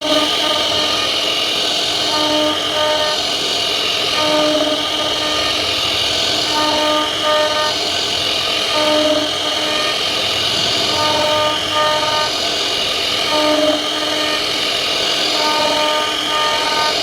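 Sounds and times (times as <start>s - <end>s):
cnc router cutting wood: 0.0s - 17.0s
pitched machine hum: 0.0s - 17.0s.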